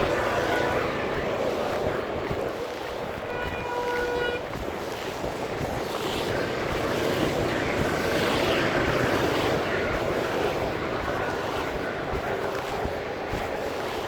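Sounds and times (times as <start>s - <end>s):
heavy rain: 0.0s - 14.0s
road traffic passing: 0.0s - 14.0s.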